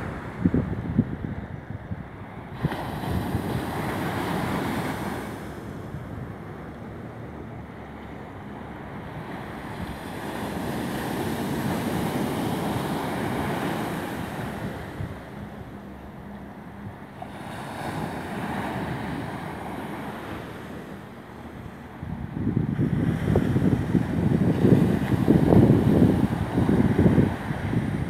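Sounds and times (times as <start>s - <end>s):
wind buffeting microphone: 0.0s - 7.2s, 7.8s - 17.2s, 21.0s - 28.0s
sea surf washing ashore: 0.0s - 28.0s.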